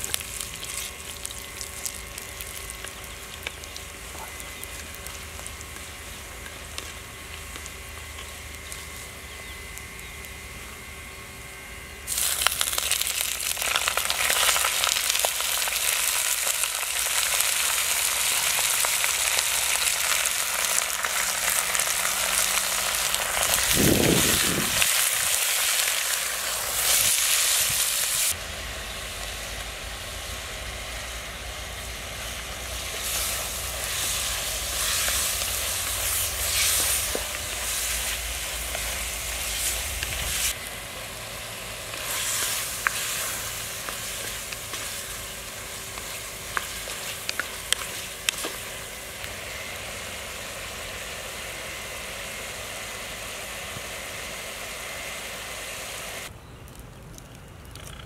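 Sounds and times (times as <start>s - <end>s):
chicken sizzling in hot oil: 0.0s - 10.5s, 12.0s - 56.3s.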